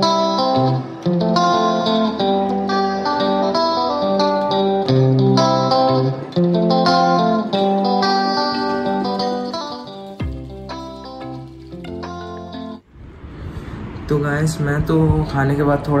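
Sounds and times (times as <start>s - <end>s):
plucked guitar melody: 0.0s - 12.8s.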